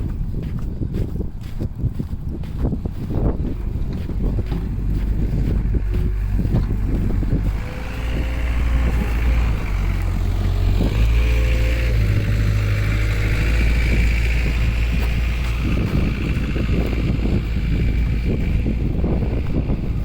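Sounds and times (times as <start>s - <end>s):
vehicle engine running: 0.0s - 20.0s
wind rumble on microphone: 0.0s - 20.0s.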